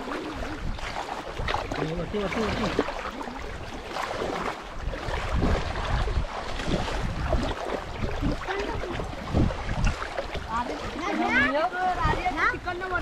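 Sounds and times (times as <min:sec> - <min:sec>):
water sloshing: 0:00.0 - 0:13.0
wind buffeting microphone: 0:00.0 - 0:13.0.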